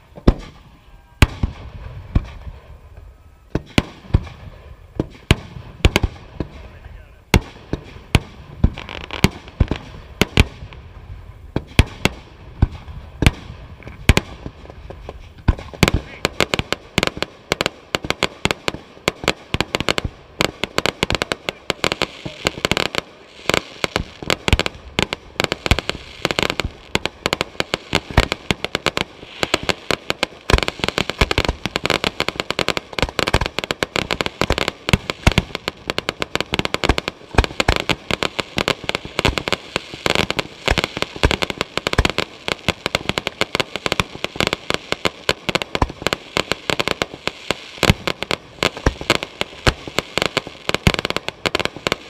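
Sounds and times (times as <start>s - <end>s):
fireworks cracking and popping: 0.0s - 52.0s.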